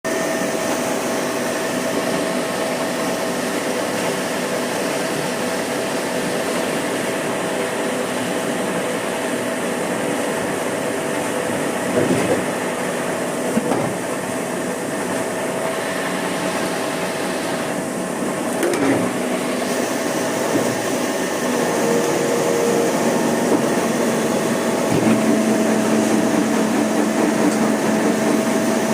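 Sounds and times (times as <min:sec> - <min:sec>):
constant machine whine: 0:00.0 - 0:28.9
workshop machinery humming: 0:00.0 - 0:28.9.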